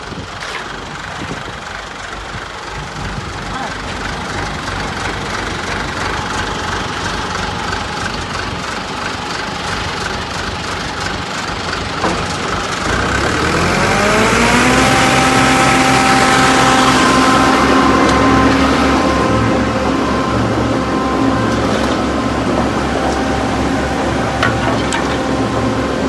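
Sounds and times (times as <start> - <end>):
diesel engine running and revving: 0.0 - 26.0.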